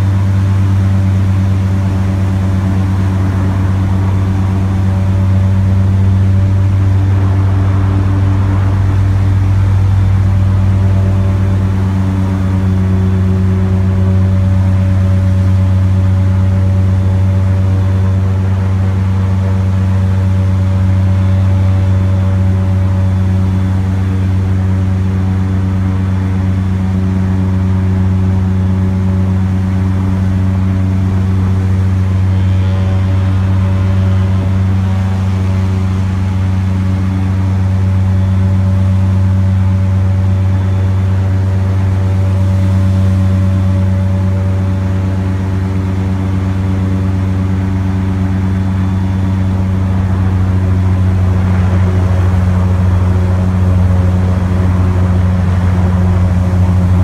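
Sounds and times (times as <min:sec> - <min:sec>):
airboat engine and propeller drone: 0:00.0 - 0:57.0.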